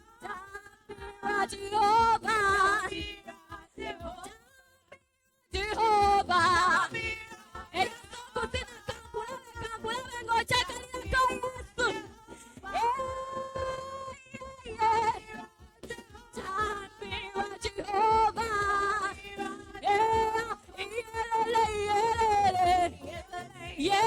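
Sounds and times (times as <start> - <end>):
person singing: 0.0 - 4.4, 5.6 - 24.0.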